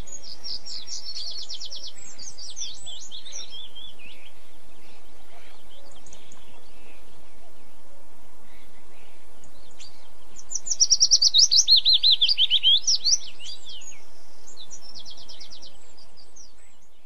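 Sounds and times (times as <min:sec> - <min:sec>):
songbird trilling: 0:00.0 - 0:07.8, 0:08.4 - 0:17.0
background hiss: 0:00.0 - 0:17.0.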